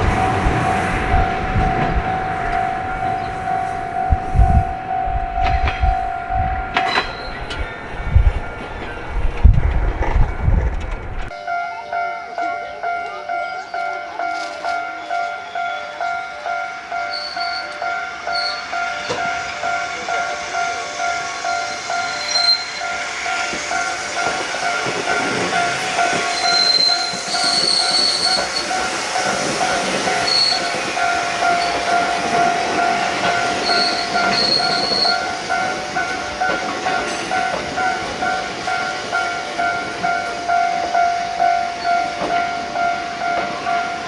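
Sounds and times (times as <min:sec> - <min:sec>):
level crossing alarm dings: 0:00.0 - 0:09.1, 0:11.3 - 0:44.0
wheel squeals: 0:00.0 - 0:11.4, 0:16.9 - 0:44.0
train rumble: 0:00.0 - 0:44.0.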